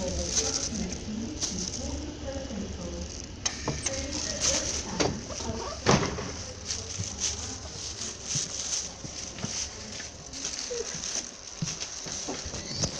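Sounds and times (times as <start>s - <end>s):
footsteps: 0.0s - 12.9s
train low hum: 0.0s - 12.9s.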